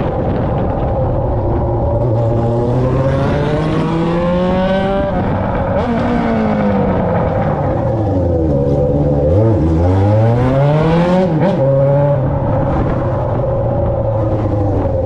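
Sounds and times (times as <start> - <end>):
motorcycle engine revving: 1.8 - 15.0.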